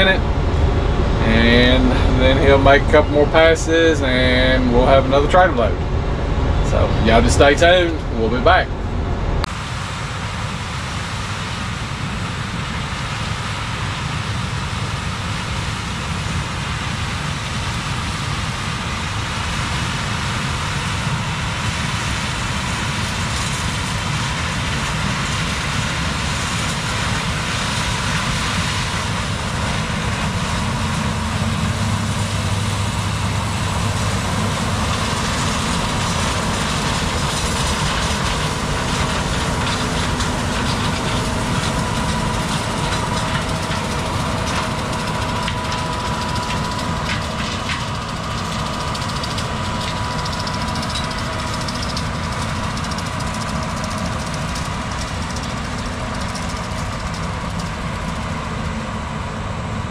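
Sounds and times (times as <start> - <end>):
tractor engine running: 0.0 - 9.5, 16.3 - 59.9
thin steady whine: 0.0 - 59.9.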